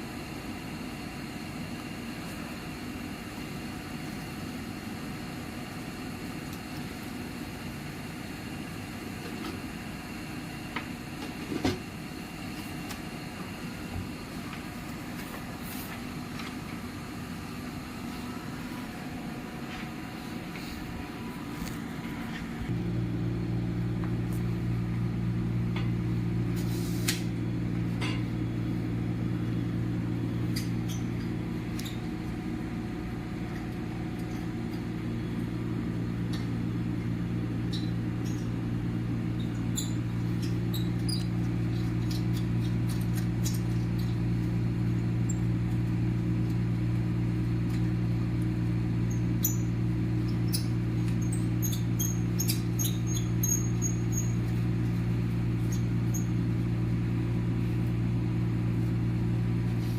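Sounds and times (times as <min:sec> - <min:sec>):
microwave oven hum: 0:00.0 - 0:59.9.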